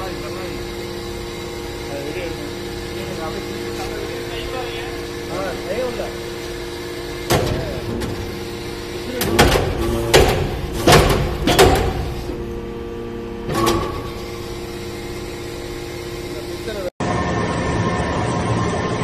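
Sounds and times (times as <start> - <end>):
hydraulic press humming: 0.0 - 19.0.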